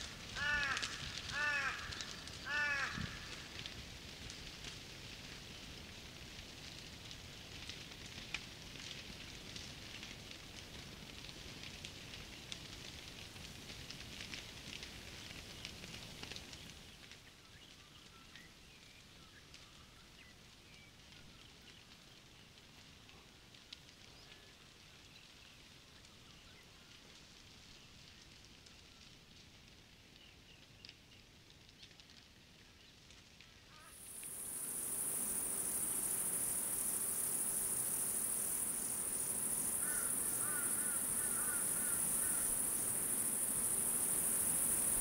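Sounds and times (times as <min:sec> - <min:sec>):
bushfire crackling: 0:00.0 - 0:45.0
outdoor ambience: 0:00.0 - 0:45.0.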